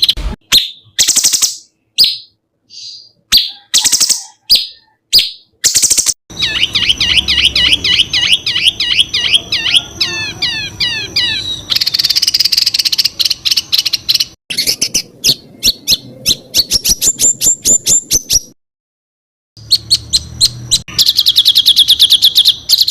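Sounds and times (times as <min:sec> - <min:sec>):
songbird singing rapid bursts: 0:00.0 - 0:18.6, 0:19.6 - 0:22.9.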